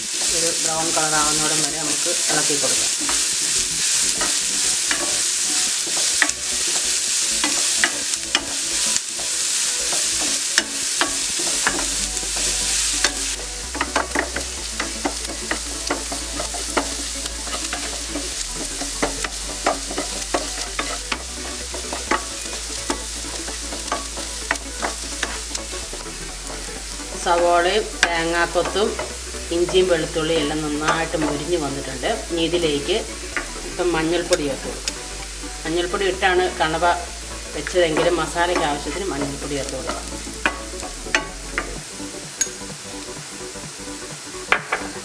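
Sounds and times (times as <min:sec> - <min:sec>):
wooden spatula scraping pan: 0:00.0 - 0:41.8
food sizzling in oil: 0:00.0 - 0:45.0.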